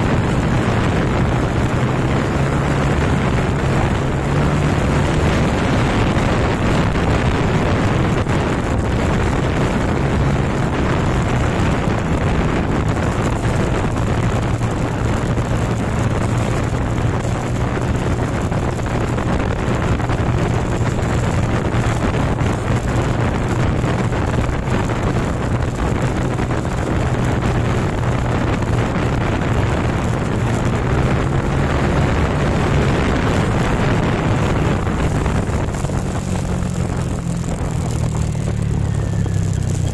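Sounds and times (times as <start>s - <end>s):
motorcycle engine cruising: 0.0s - 39.9s
road noise: 0.0s - 39.9s
wind rush over microphone: 0.0s - 39.9s.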